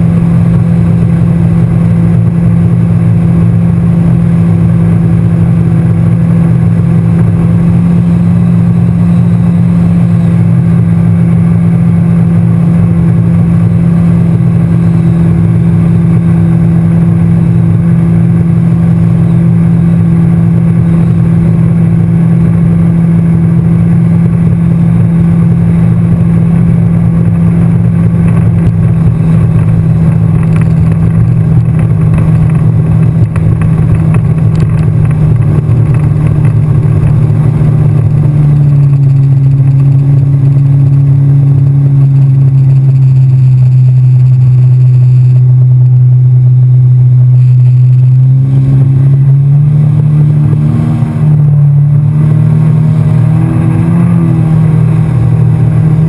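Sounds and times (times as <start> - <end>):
jet ski engine droning: 0.0 - 56.0.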